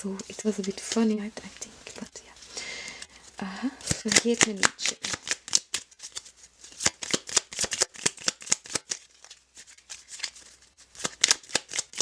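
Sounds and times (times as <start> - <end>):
deck of cards shuffling: 0.2 - 12.0.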